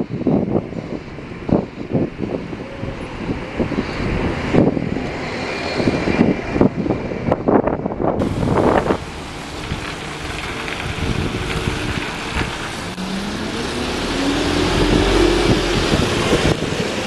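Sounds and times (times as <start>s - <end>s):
bus driving past: 0.0s - 17.0s
wind buffeting microphone: 0.0s - 17.0s.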